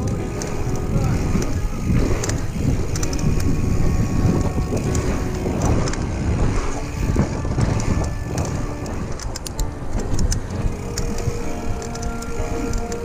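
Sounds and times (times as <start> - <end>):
bike rattles and clicks: 0.0 - 13.0
tyres rolling on packed dirt: 0.0 - 13.0
wind buffeting microphone: 0.0 - 13.0.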